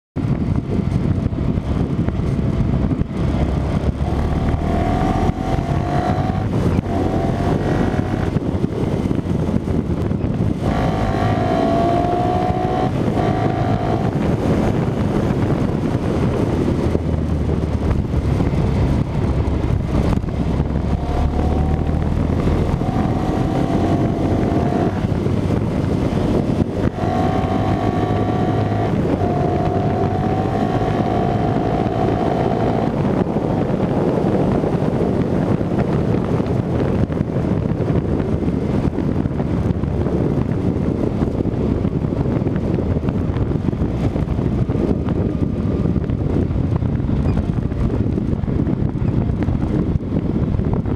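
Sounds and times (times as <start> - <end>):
motorcycle engine accelerating: 0.2 - 50.9
wind buffeting microphone: 0.2 - 50.9.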